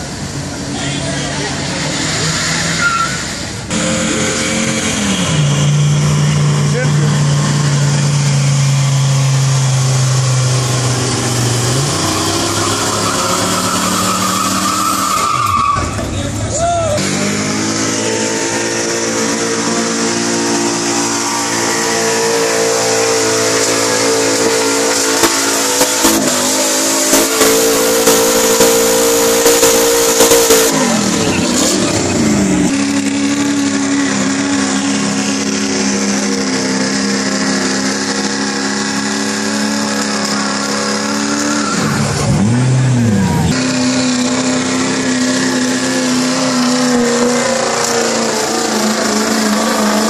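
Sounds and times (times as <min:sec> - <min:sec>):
tires spinning on wet pavement: 0:00.0 - 0:50.0
truck engine revving: 0:00.0 - 0:50.0.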